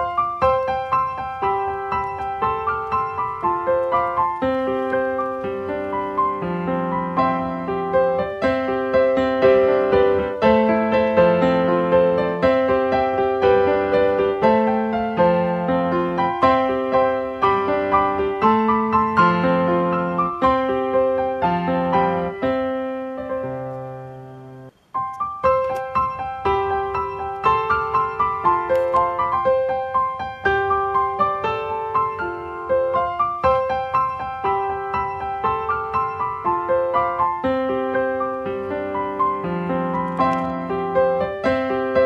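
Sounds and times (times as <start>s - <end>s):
light keyboard tune: 0.0s - 42.0s.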